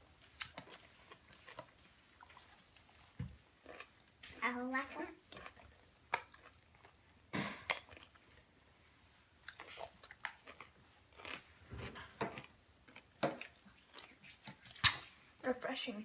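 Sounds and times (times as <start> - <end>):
person chewing crunchy food: 0.0 - 15.1.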